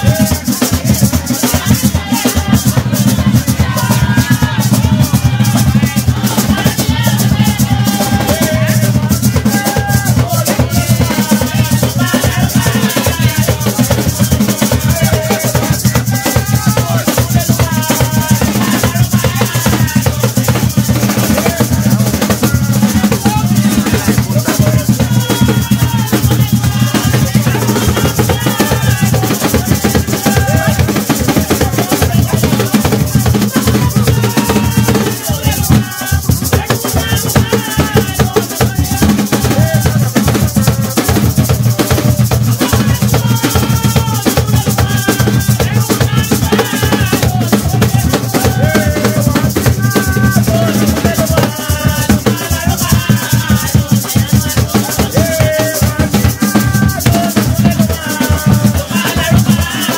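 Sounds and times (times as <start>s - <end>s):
hand drums: 0.0s - 59.9s
maracas rattling: 0.0s - 59.9s
voices singing: 0.0s - 59.9s.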